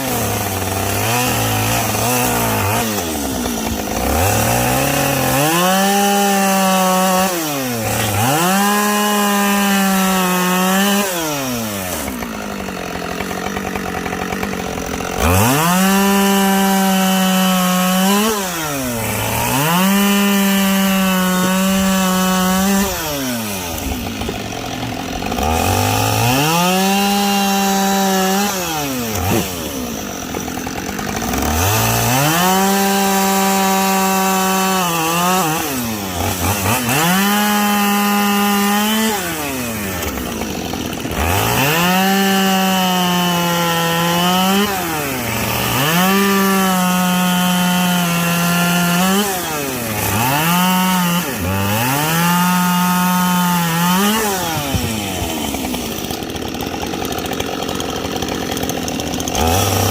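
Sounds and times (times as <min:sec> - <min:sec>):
chainsaw revving and cutting logs: 0:00.0 - 0:59.9.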